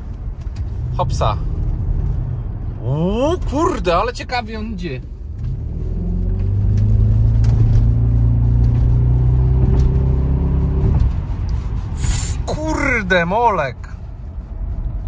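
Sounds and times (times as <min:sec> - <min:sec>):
car engine under throttle: 0:00.0 - 0:15.0.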